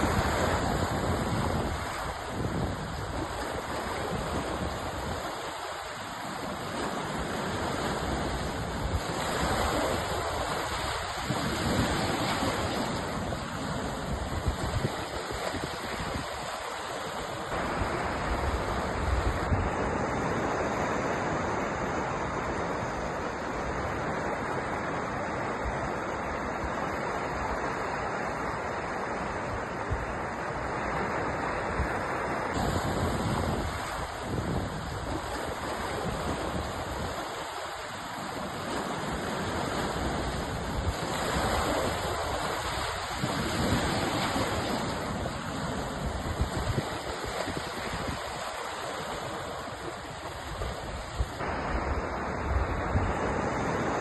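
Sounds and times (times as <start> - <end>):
ocean waves: 0.0 - 54.0.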